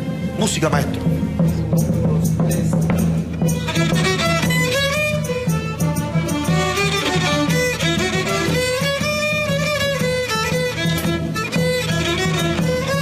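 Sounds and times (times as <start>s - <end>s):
string orchestra playing melody: 0.0s - 13.0s.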